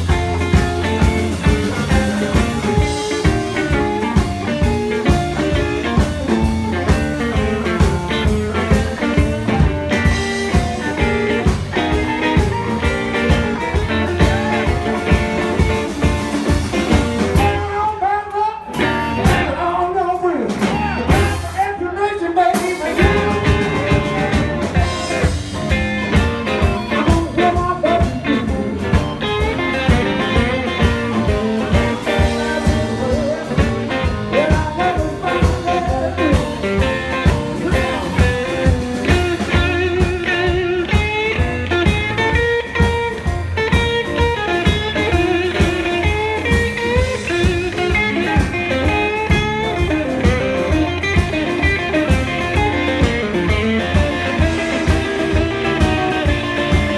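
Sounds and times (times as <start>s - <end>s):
blues-rock band playing: 0.0s - 56.9s.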